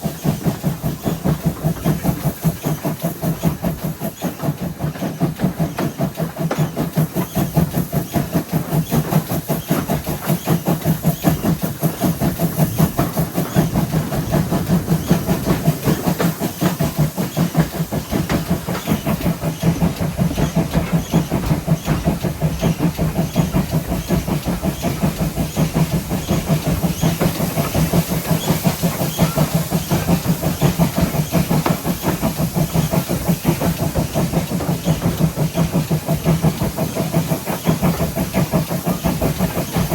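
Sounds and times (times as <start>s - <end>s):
rail running noise: 0.0s - 39.9s
steam hiss: 0.0s - 39.9s
steam locomotive exhaust beats: 0.0s - 39.9s.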